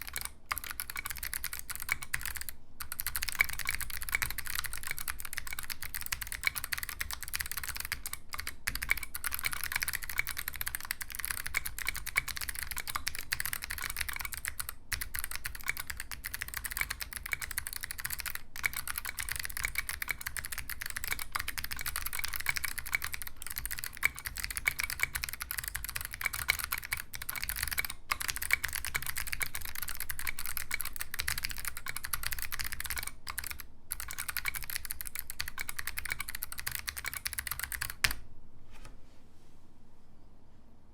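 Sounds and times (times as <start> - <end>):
mechanical keyboard typing: 0.0 - 38.2.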